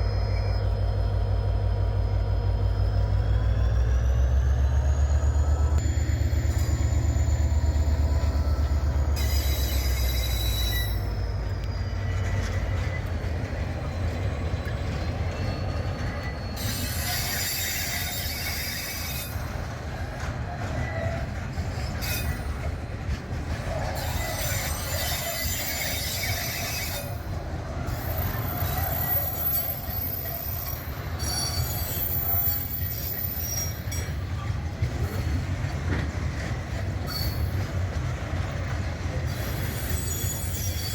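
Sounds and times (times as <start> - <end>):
deep rumble of train: 0.0 - 40.9
train wagons rolling: 0.0 - 40.9
train wheels squealing: 0.0 - 40.9.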